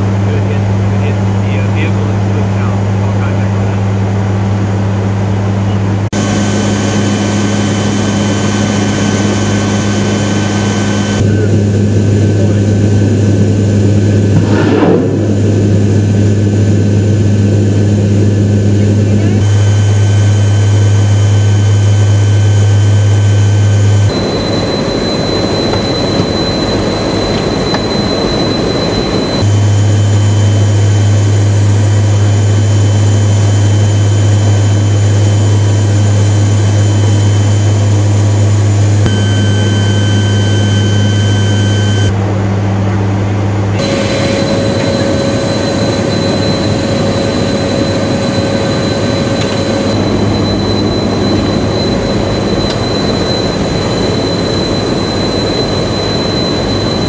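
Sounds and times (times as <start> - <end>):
turboprop engines droning: 0.0 - 57.0
thin high whine: 6.2 - 11.6, 13.4 - 42.2, 43.7 - 57.0.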